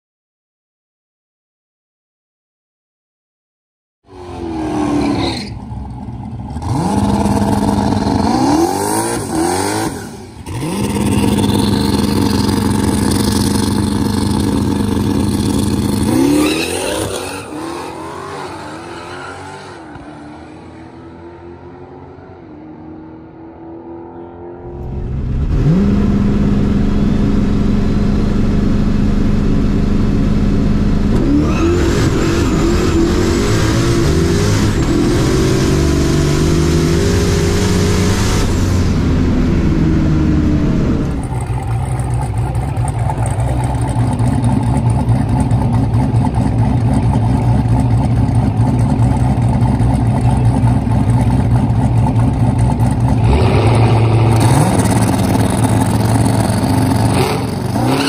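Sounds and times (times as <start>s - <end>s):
drag car engine revving: 4.1s - 21.8s, 24.6s - 58.0s.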